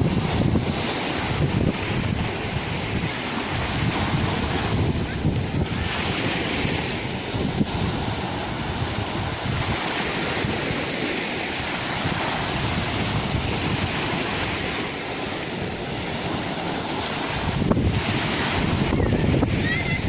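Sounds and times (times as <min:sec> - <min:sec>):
sea waves surging: 0:00.0 - 0:20.0
wind buffeting microphone: 0:00.0 - 0:20.0.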